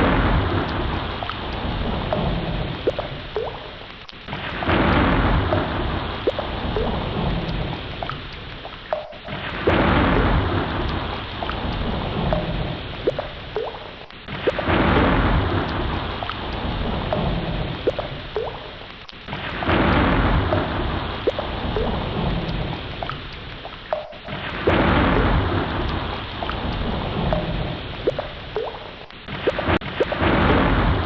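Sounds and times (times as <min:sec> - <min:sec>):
ocean water surging: 0:00.0 - 0:31.0.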